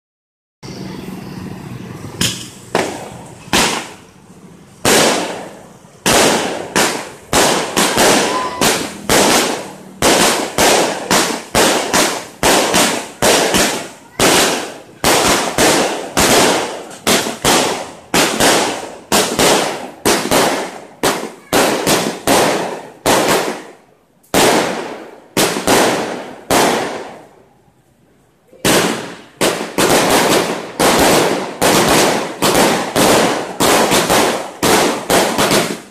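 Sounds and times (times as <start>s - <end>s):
fireworks bangs: 0.7s - 27.6s, 28.5s - 35.9s.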